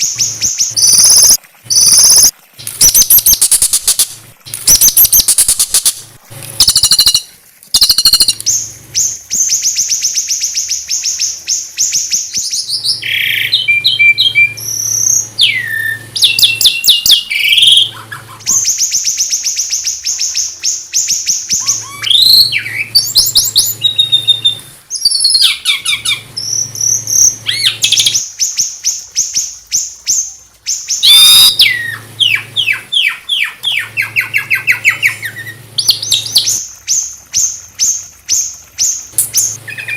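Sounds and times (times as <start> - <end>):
songbird trilling and whistling: 0.0 - 6.0, 6.6 - 39.9.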